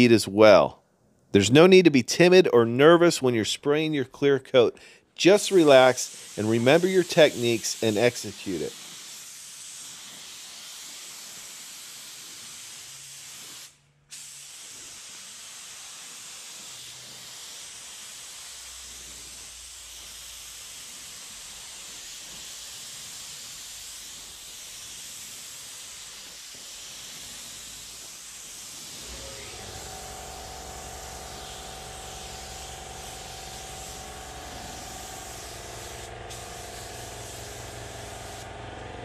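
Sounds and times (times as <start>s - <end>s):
paint spray gun hissing: 5.4s - 39.0s.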